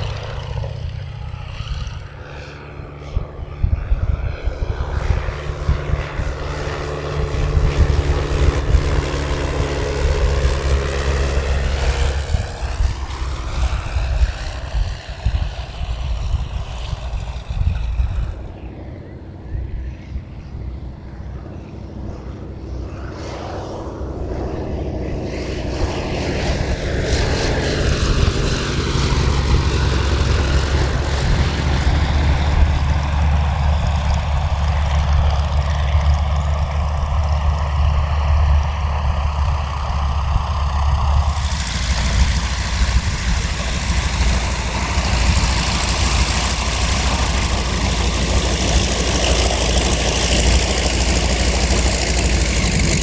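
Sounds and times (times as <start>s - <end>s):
propeller airplane engine drone: 0.0s - 53.0s
radial aircraft engine running: 0.0s - 53.0s.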